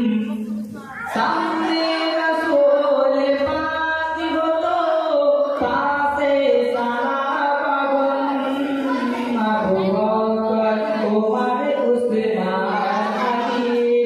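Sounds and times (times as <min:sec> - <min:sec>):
man singing into a microphone: 0:01.1 - 0:14.0.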